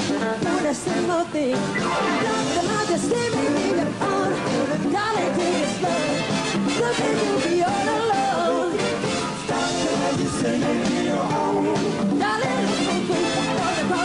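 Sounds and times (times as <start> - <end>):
electric guitar: 0.0 - 14.0
people singing into microphones: 0.0 - 14.0
pop-soul band playing: 0.0 - 14.0.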